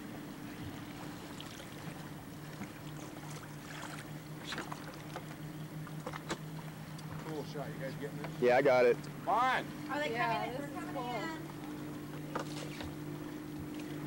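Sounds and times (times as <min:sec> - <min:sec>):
engine drone: 0:00.0 - 0:14.0
water lapping and splashing: 0:00.0 - 0:14.0.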